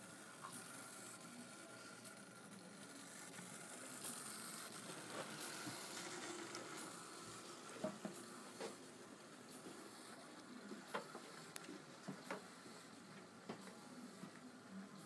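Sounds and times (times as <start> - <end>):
room noise hiss: 0.0 - 15.0.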